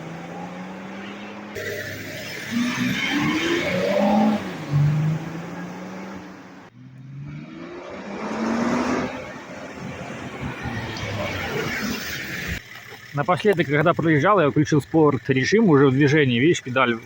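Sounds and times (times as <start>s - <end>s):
diesel engine accelerating: 0.0s - 17.0s.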